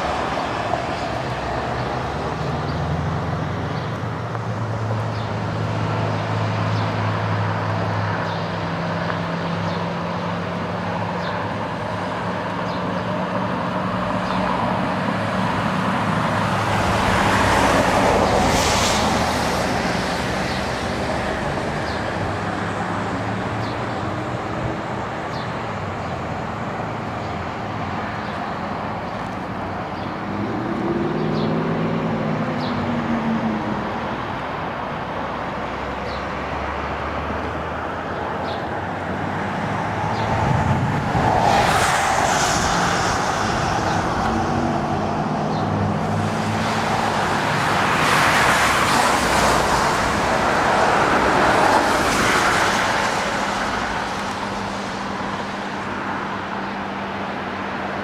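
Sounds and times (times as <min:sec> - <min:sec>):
road vehicle passing: 0:00.0 - 0:58.0.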